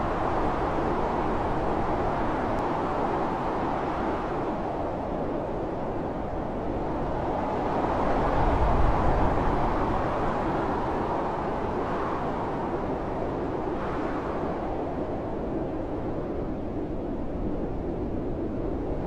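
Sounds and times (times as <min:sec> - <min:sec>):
blizzard wind rushing: 0:00.0 - 0:19.0.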